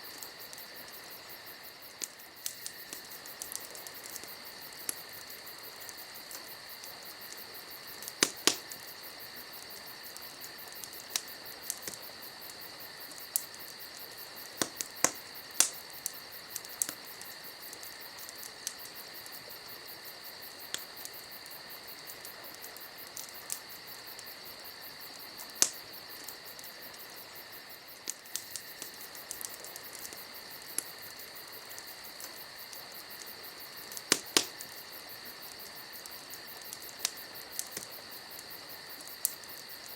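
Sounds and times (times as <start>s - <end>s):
campfire crackling: 0.0s - 39.9s
fire pops: 0.0s - 39.9s
insect chirring: 0.0s - 39.9s.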